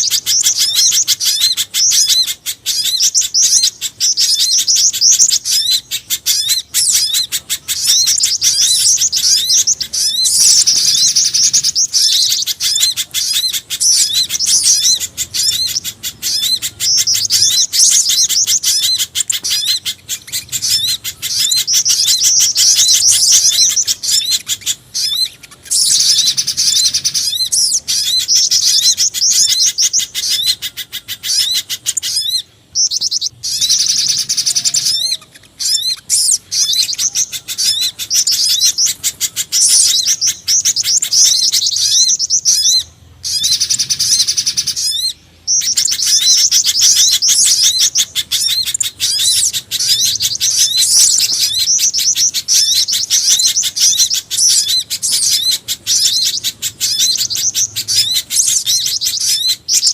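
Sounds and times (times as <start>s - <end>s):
songbird chirps and trills: 0.0s - 59.9s.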